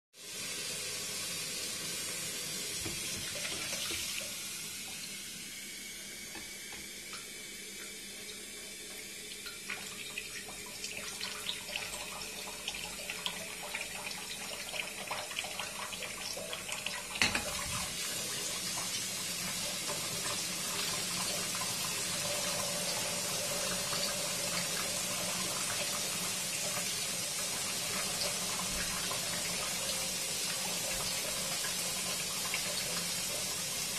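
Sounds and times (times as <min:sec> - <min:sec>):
faucet water filling kettle: 0:00.2 - 0:33.9.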